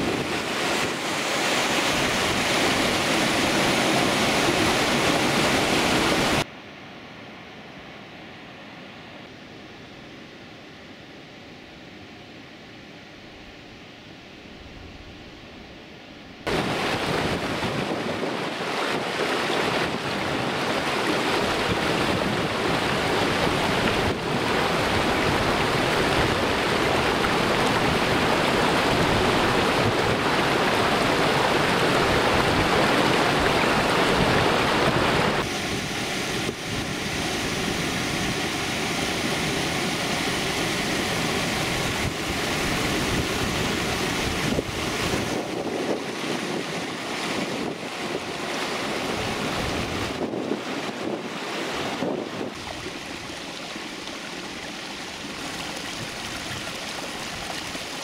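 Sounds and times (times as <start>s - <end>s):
stream rushing over rocks: 0.0s - 6.5s, 16.5s - 58.0s.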